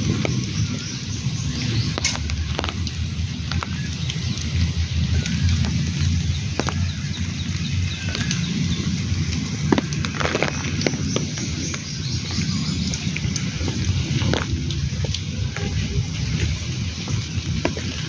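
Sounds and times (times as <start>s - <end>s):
heavy rain falling: 0.0s - 18.0s
low rumble: 0.0s - 18.0s
raindrops hitting close by: 0.0s - 18.0s.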